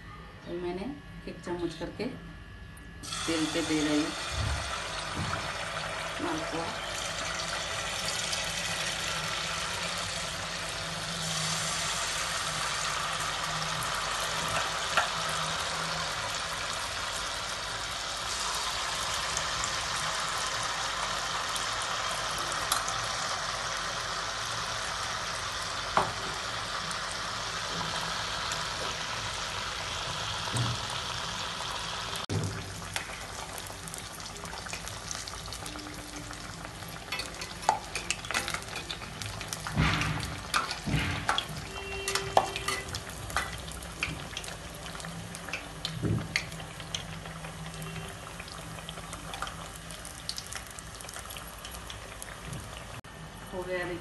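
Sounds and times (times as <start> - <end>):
batter sizzling in hot oil: 3.0 - 54.0.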